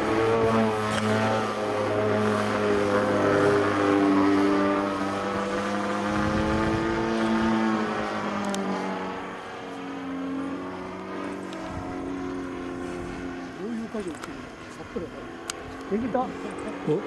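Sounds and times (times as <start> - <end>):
model plane motor droning: 0.0 - 17.0.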